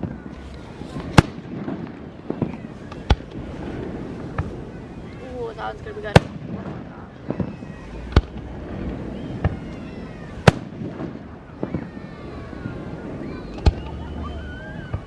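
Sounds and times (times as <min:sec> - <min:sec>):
fireworks bangs: 0:00.0 - 0:15.0
steady background noise: 0:00.0 - 0:15.0.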